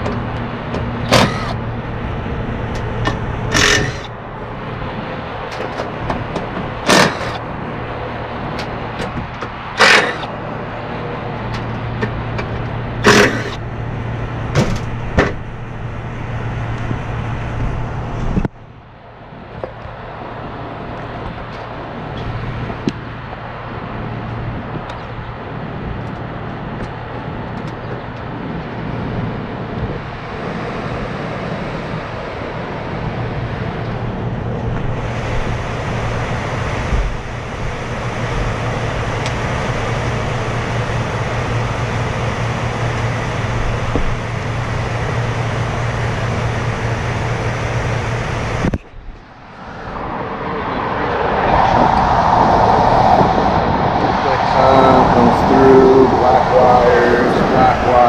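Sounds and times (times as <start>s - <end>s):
air conditioner running: 0.0s - 49.6s, 52.0s - 58.0s.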